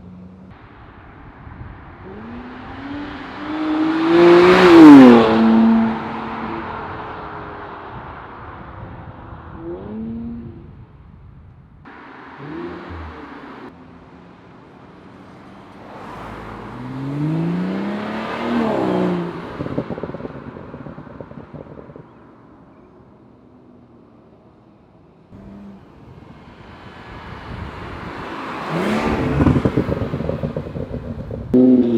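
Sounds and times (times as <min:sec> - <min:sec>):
car engine revving: 0:00.0 - 0:10.6, 0:11.9 - 0:22.2, 0:25.3 - 0:31.9.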